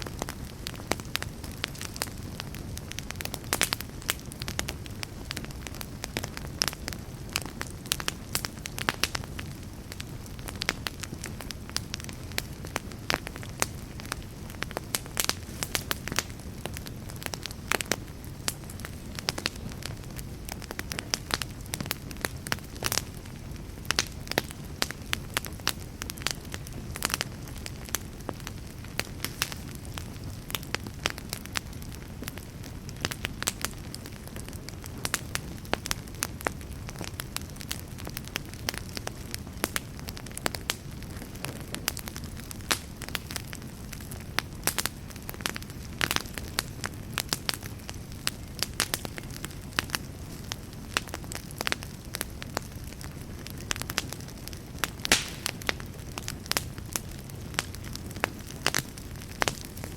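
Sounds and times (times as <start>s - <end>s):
fire low rumble: 0.0s - 59.9s
wood fire crackling and popping: 0.0s - 59.9s.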